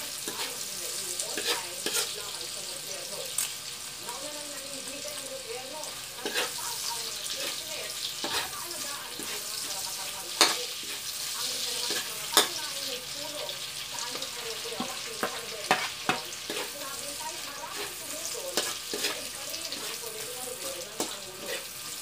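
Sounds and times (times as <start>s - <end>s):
metal spatula scraping wok: 0.0s - 3.2s, 5.2s - 22.0s
shrimp sizzling in oil: 0.0s - 22.0s.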